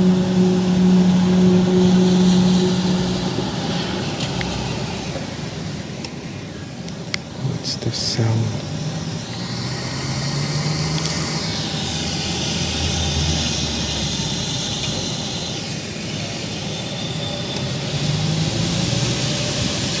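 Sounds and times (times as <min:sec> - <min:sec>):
hissing rush: 0:00.0 - 0:20.0
low droning hum: 0:00.0 - 0:20.0.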